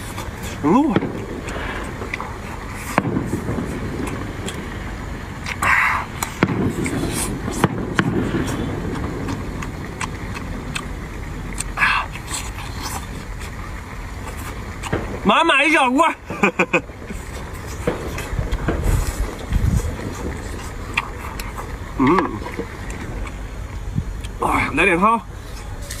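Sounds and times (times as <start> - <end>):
person chewing wetly: 0.0 - 15.2, 17.1 - 24.4.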